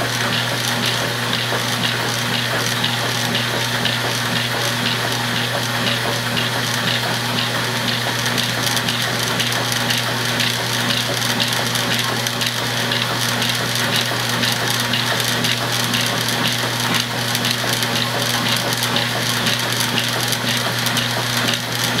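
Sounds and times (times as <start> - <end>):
washing machine humming and rattling: 0.0 - 22.0.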